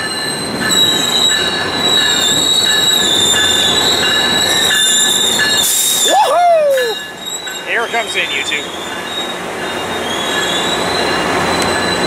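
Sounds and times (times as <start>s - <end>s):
train rumble: 0.0s - 12.0s
train wheels squealing: 0.0s - 12.0s.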